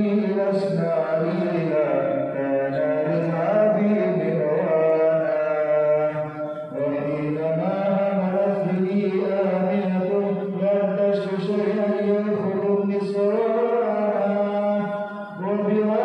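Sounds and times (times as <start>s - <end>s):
man chanting a prayer: 0.0s - 16.0s.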